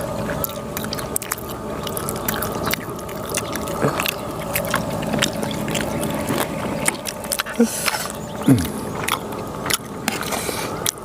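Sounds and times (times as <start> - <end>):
crisp chewing and crackling: 0.0 - 11.0.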